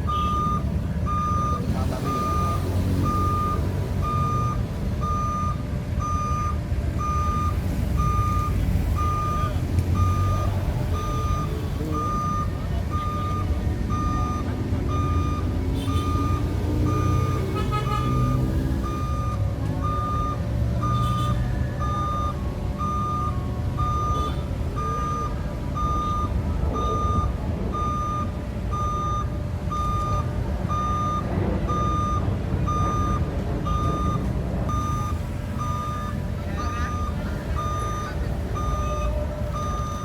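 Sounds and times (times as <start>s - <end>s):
diesel engine running: 0.0s - 40.0s
excavator alarm beeping: 0.0s - 40.0s.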